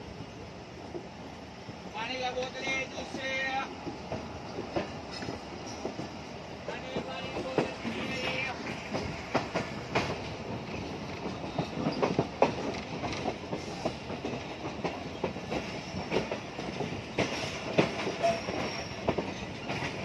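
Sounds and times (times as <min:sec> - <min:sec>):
train coaches rumbling: 0:00.0 - 0:20.0
wheels clicking over rail joints: 0:01.7 - 0:20.0.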